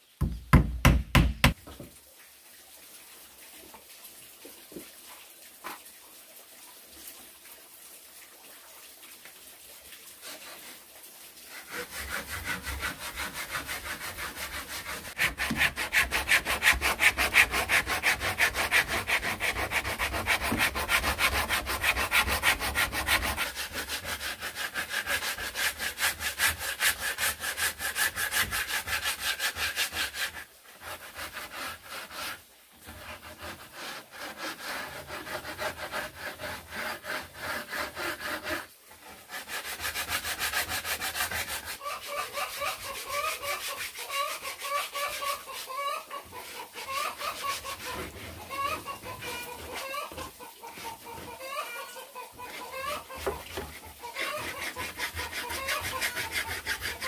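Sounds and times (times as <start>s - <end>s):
hand saw cutting wood: 10.2s - 57.0s.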